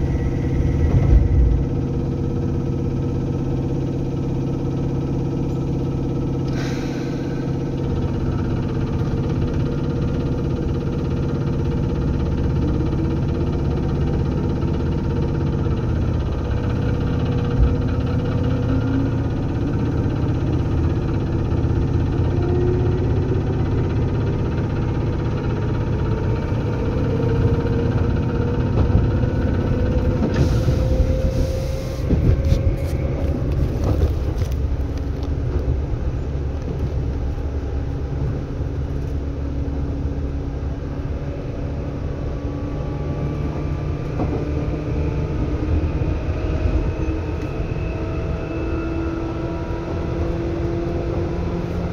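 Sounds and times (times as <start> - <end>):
train rumble and motor whine: 0.0 - 51.9.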